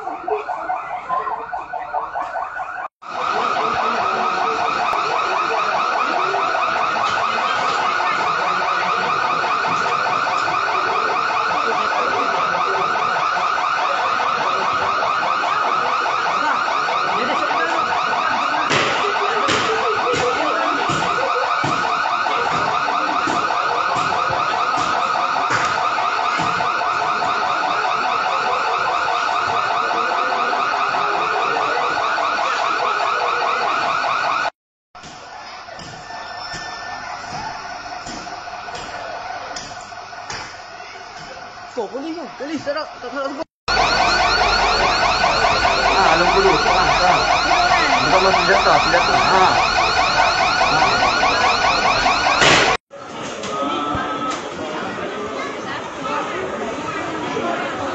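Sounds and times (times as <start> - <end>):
warbling electronic alarm: 0.0 - 34.6, 35.7 - 40.4, 41.6 - 52.8.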